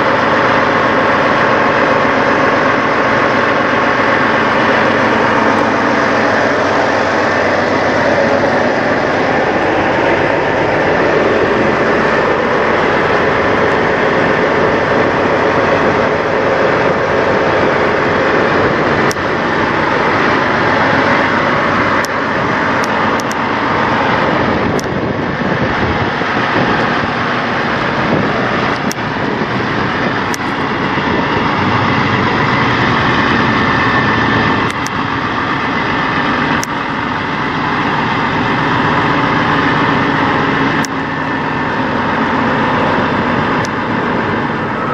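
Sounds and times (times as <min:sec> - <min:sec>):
diesel truck engines idling: 0:00.0 - 0:44.9.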